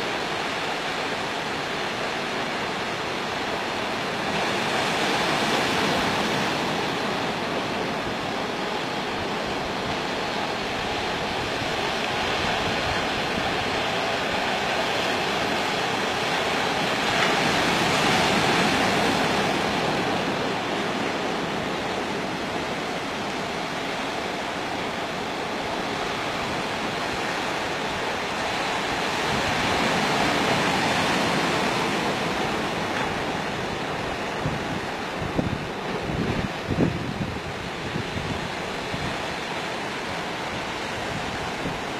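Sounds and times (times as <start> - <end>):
sea waves washing ashore: 0.0 - 41.9.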